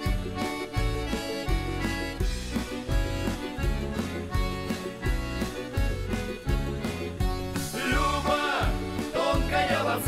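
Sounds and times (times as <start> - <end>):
accordion-led band: 0.0 - 10.0
steady drum beat: 1.6 - 10.0.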